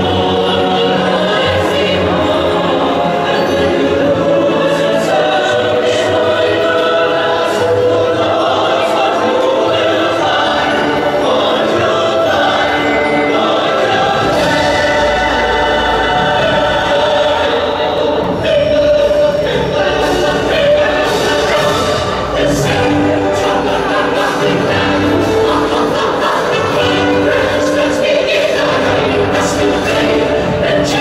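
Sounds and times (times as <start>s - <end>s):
choir music over loudspeakers: 0.0s - 31.0s.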